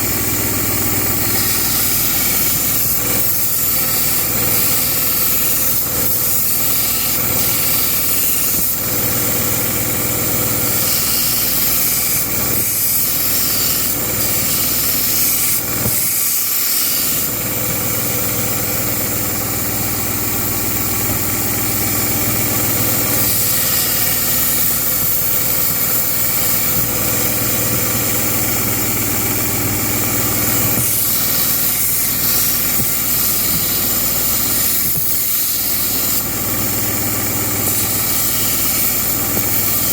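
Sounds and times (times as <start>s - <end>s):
belt grinder grinding blade: 0.0s - 39.9s.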